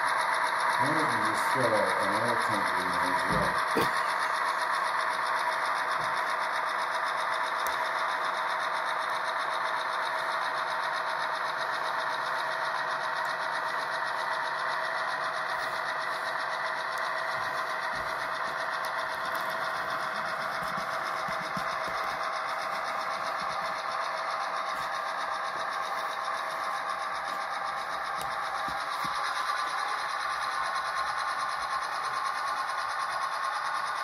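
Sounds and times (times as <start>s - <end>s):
model train rolling on rails: 0.0s - 34.0s.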